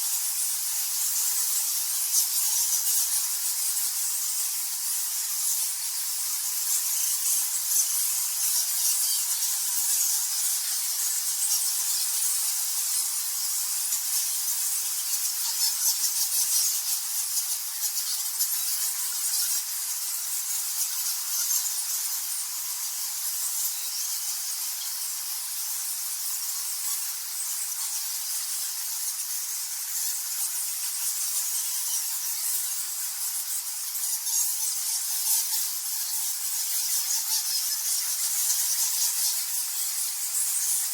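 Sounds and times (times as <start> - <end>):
bats squeaking and chittering: 0.2 - 40.9.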